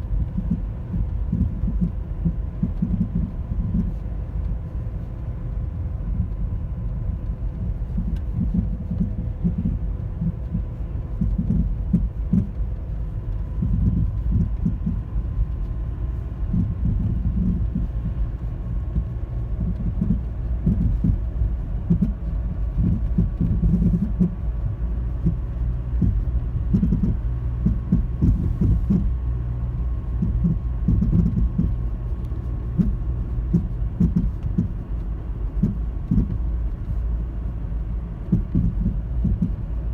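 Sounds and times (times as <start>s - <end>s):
car engine rumble: 0.0s - 39.9s
car thumping and popping: 0.0s - 39.9s
faint steady hum: 0.0s - 39.9s.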